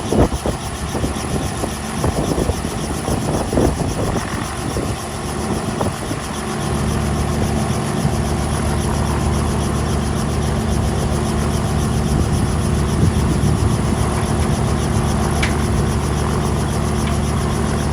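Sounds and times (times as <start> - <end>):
engine running: 1.4 - 17.9.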